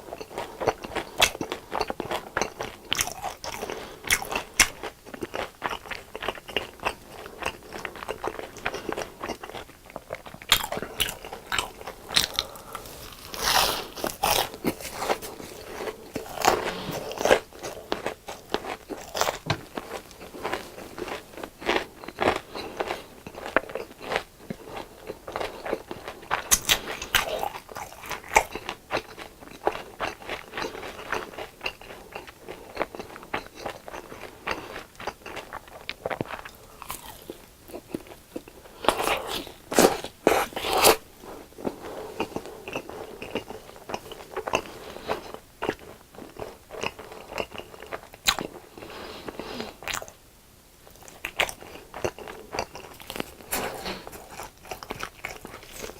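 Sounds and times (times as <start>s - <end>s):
crunching and chewing crispy food: 0.0s - 50.2s, 50.8s - 55.9s.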